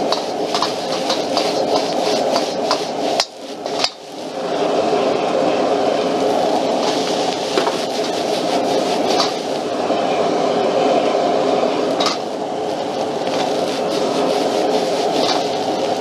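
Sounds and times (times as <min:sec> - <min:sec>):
gas burner flame roaring: 0:00.0 - 0:16.0.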